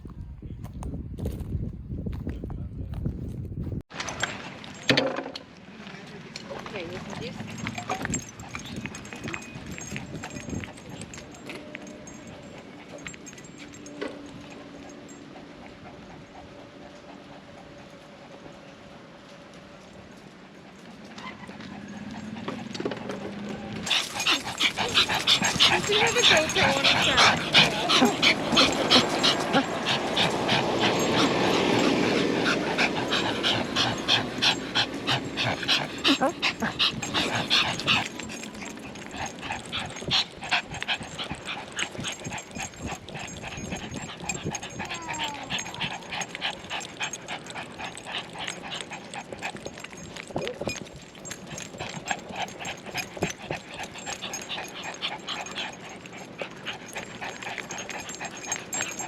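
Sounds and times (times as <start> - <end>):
dog panting: 6.6 - 19.4, 20.4 - 59.0.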